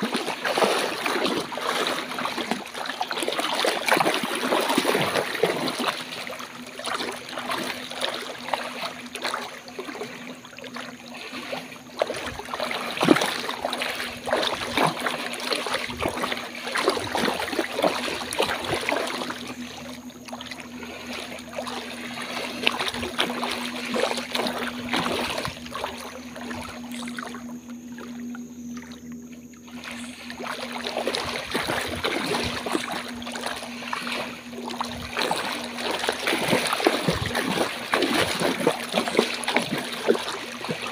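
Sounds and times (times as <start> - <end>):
sloshing through shallow water: 0.0 - 40.9
steady low hum: 0.0 - 40.9.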